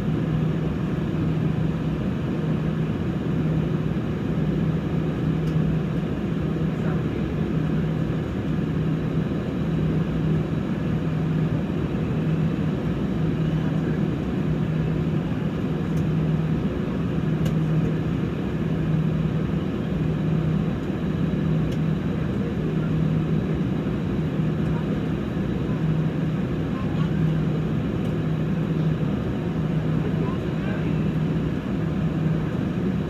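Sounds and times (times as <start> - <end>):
aircraft cabin air rush: 0.0 - 33.0
low throbbing engine hum: 0.0 - 33.0.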